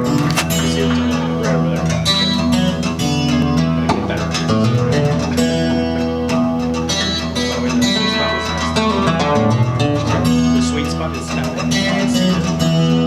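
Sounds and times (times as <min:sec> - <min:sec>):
picked guitar music: 0:00.0 - 0:13.0.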